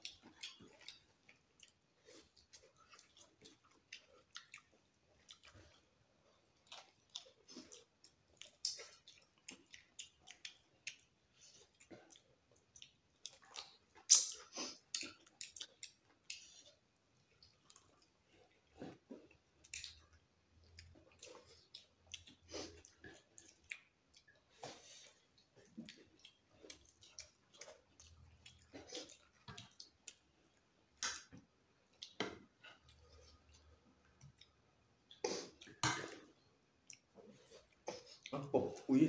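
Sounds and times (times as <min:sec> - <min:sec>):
chewing and lip-smacking: 0:00.0 - 0:38.9.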